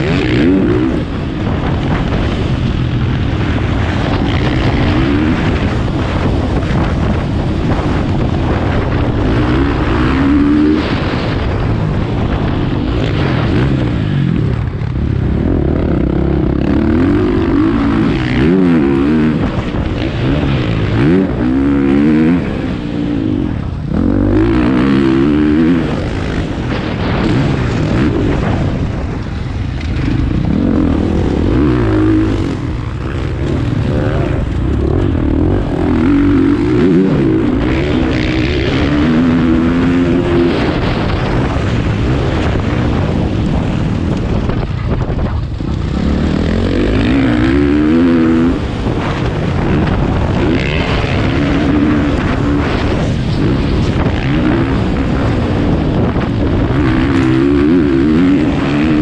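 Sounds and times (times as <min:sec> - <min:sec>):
dirt bike engine revving: 0:00.0 - 0:59.0
wind hiss and track noise: 0:00.0 - 0:59.0.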